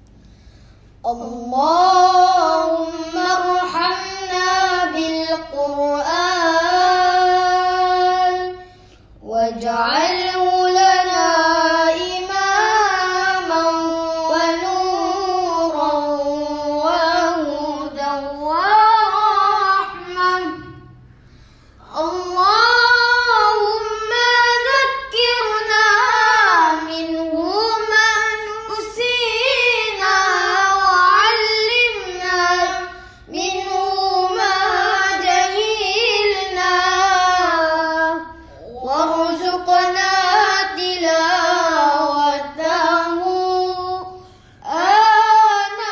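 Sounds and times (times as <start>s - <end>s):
boy chanting: 1.0s - 21.0s, 21.8s - 45.9s.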